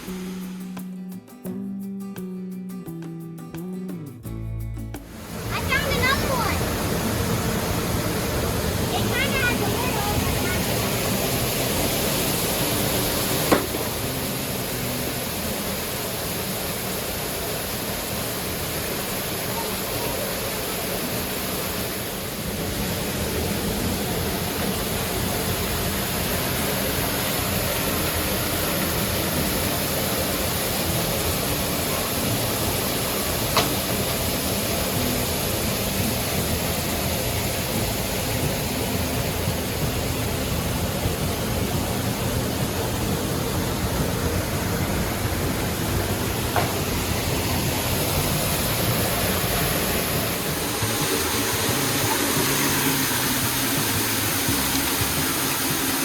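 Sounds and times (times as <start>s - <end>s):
waterfall rushing: 0.0s - 0.8s, 5.1s - 56.0s.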